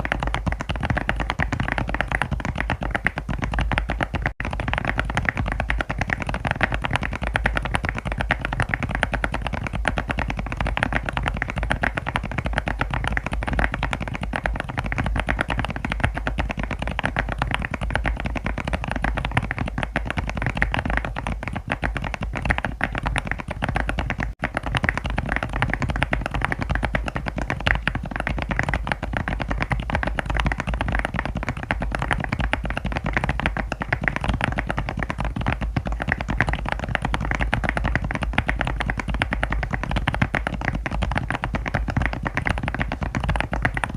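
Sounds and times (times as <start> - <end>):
fast typing on mechanical keyboard: 0.0 - 43.9.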